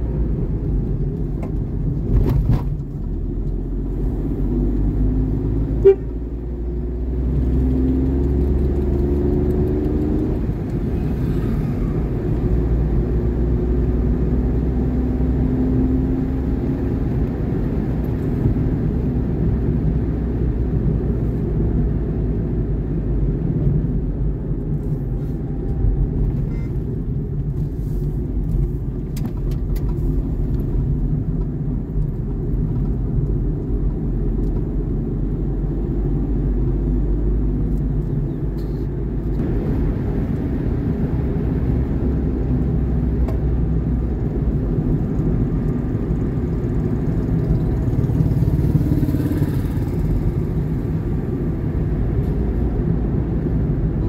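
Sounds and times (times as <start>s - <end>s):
vehicle engine and tyre noise: 0.0s - 54.0s.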